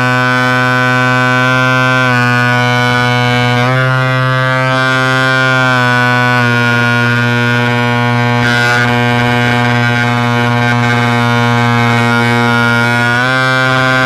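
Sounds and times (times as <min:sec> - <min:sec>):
model plane propeller droning: 0:00.0 - 0:14.0.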